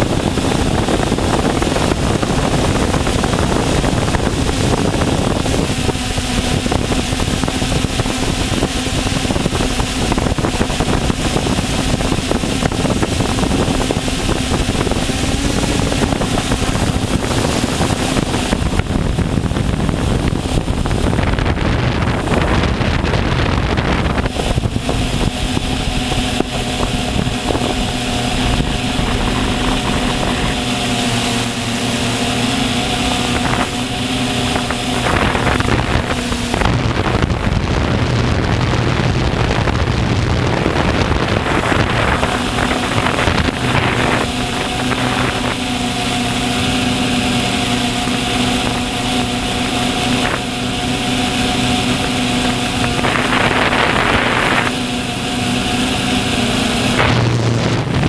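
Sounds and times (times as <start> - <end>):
drone propellers humming: 0.0 - 58.0
wind rushing over microphone: 0.0 - 58.0.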